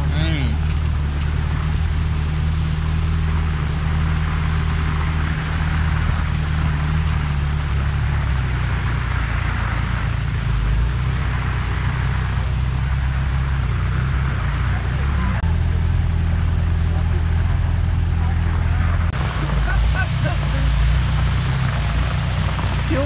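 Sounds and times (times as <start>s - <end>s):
heavy rain hissing: 0.0s - 23.0s
low rumble: 0.0s - 23.0s.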